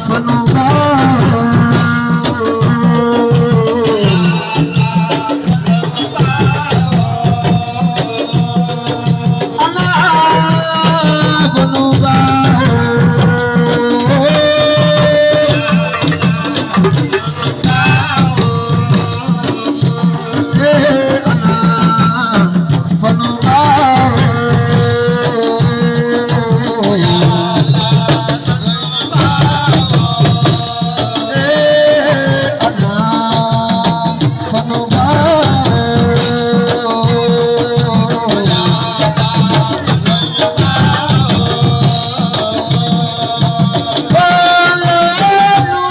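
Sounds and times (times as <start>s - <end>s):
steady drumming: 0.0s - 45.9s.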